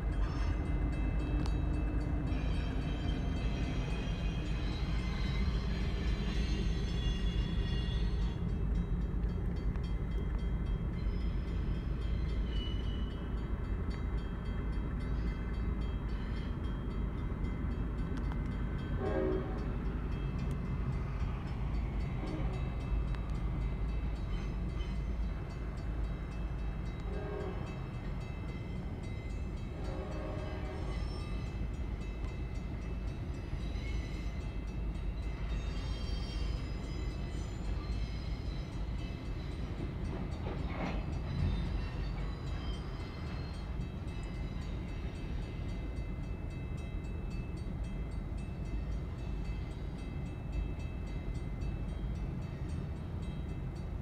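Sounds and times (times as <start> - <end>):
diesel locomotive passing: 0.0 - 54.0
train wheels rumbling on rail: 0.0 - 54.0.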